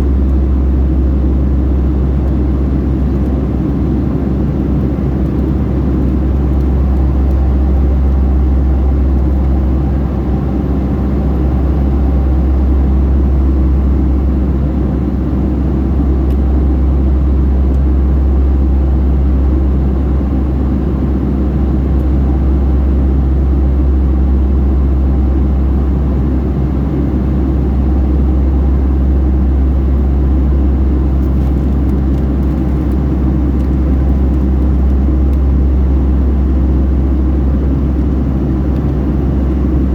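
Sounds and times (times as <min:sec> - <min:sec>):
jet engine drone: 0:00.0 - 0:16.2, 0:19.5 - 0:39.9
airflow rumble: 0:00.0 - 0:18.0, 0:25.8 - 0:39.9.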